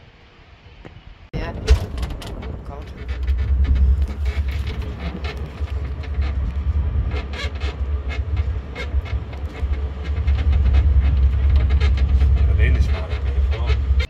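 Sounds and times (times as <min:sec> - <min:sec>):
carriage rumbling: 0:01.4 - 0:14.0
rattles and clicks of fittings: 0:01.7 - 0:14.0.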